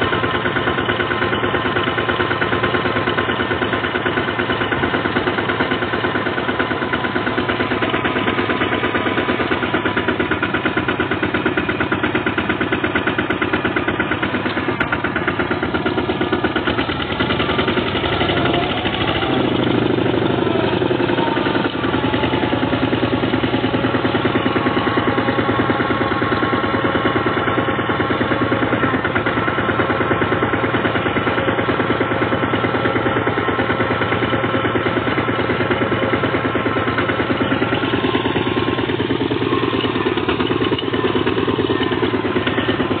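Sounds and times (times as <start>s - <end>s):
diesel engine chugging: 0.0s - 43.0s.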